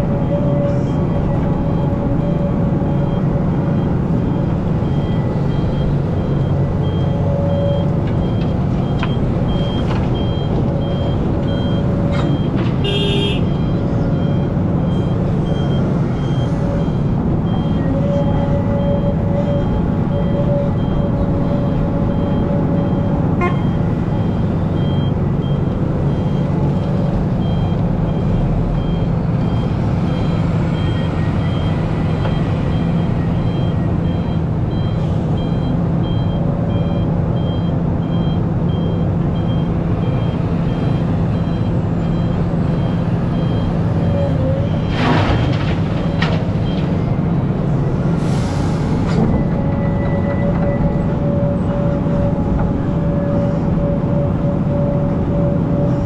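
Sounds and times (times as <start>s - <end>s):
reversing alarm beeping: 0.0s - 46.9s
excavator diesel engine running: 0.0s - 56.0s.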